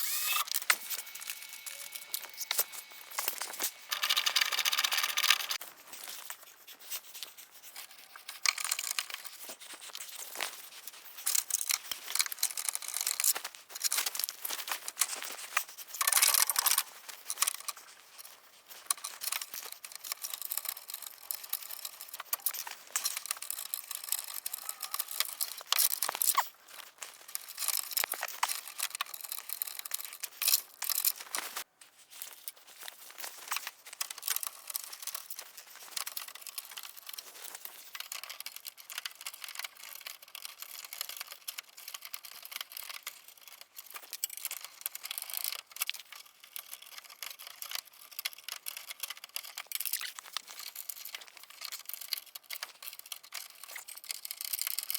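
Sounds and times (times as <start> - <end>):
crackling rustle and scraping: 0.0 - 54.9.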